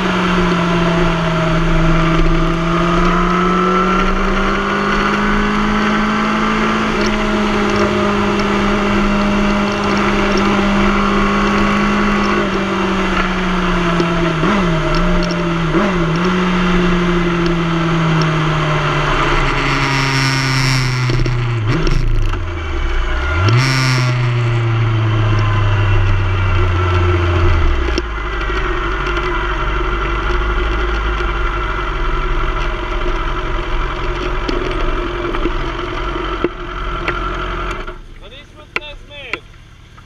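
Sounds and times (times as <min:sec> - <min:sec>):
motorcycle engine downshifting: 0:00.0 - 0:40.0.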